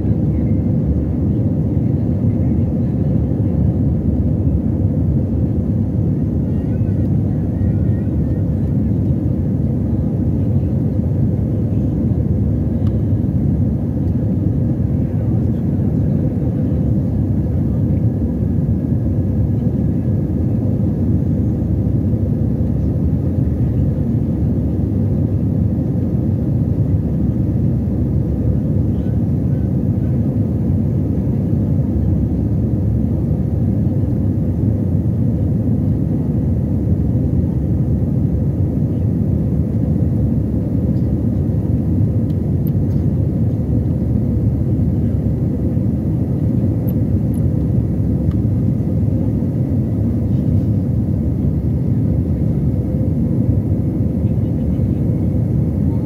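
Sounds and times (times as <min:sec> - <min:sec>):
jet engine rumble in cabin: 0:00.0 - 0:56.0.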